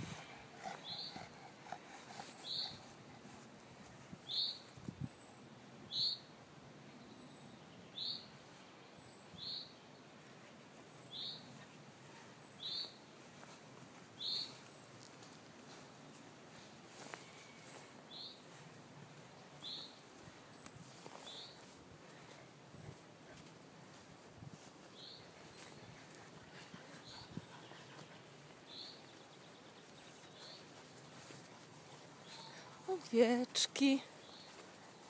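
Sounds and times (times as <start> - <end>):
faint outdoor background noise: 0.0 - 35.0.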